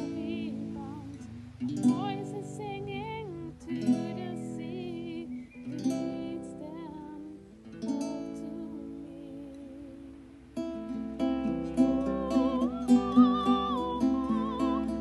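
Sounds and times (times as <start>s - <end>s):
woman singing: 0.0s - 10.3s, 11.4s - 15.0s
acoustic guitar chords: 0.0s - 15.0s.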